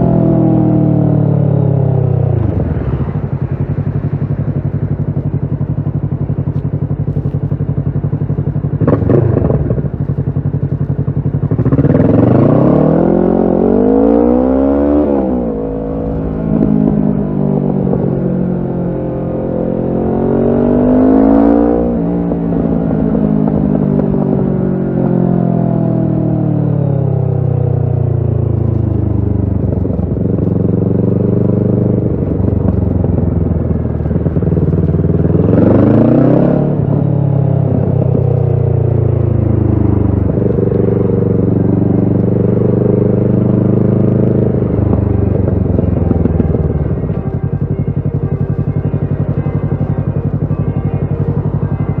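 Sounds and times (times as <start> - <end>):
motorcycle engine while riding: 0.0 - 52.0.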